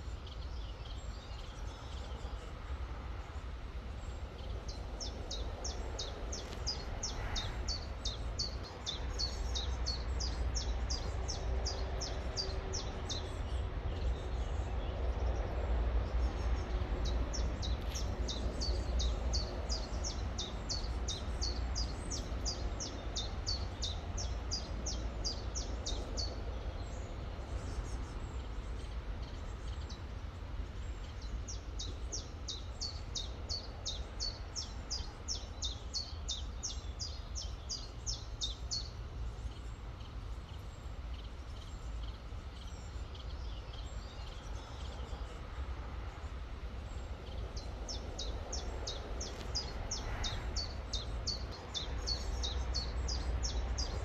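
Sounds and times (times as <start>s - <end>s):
songbird chirping: 3.2s - 54.0s.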